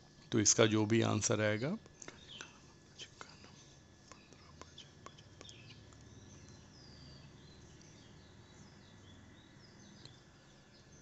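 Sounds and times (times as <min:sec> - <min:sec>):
distant birds chirping: 0:00.0 - 0:11.0
faint room hum: 0:00.0 - 0:11.0.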